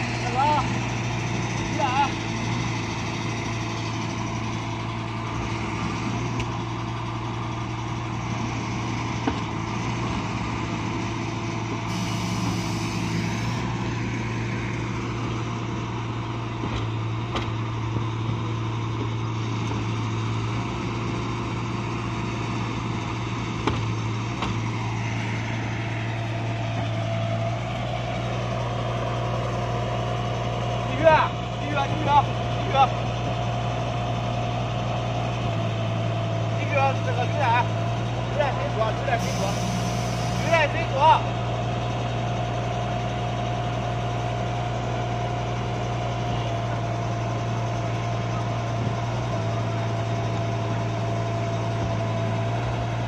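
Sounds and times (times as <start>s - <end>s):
small diesel engine running: 0.0s - 53.0s.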